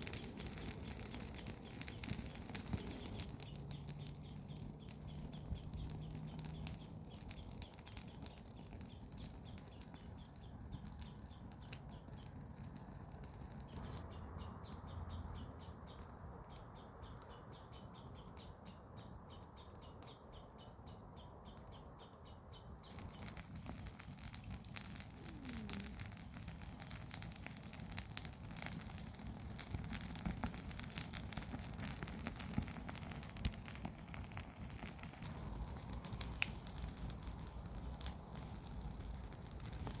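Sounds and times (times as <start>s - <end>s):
fire crackling and snapping: 0.0s - 40.0s.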